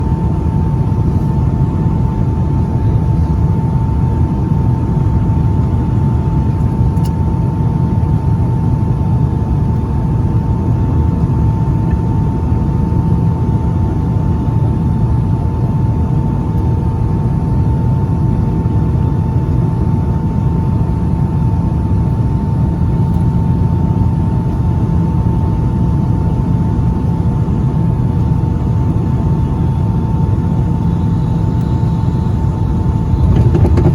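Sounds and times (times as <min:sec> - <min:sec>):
airliner cabin engine rumble: 0:00.0 - 0:33.9
constant high whine: 0:00.0 - 0:33.9.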